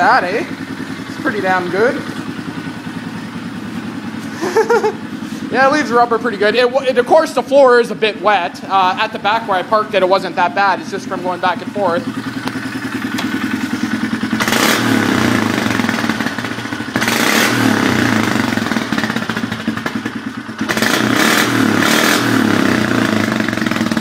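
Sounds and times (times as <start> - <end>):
atv engine chugging and revving: 0.0 - 24.0.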